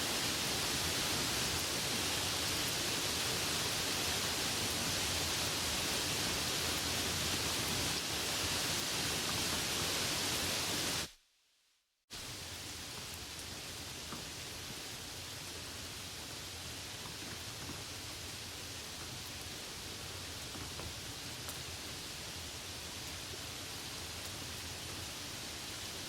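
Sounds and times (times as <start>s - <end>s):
rain hissing: 0.0s - 11.2s, 12.1s - 26.0s.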